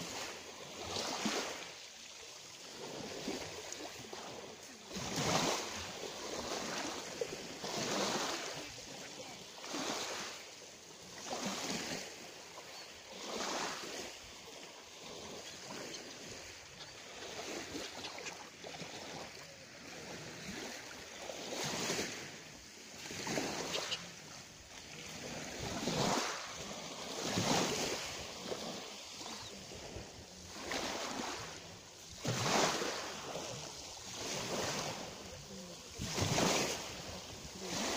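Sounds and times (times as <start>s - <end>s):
small waves washing ashore: 0.0s - 37.9s.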